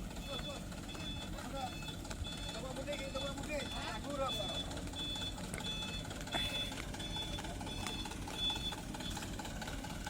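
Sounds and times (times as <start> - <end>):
diesel engine running: 0.0 - 10.0
truck reversing alarm beeping: 0.0 - 10.0.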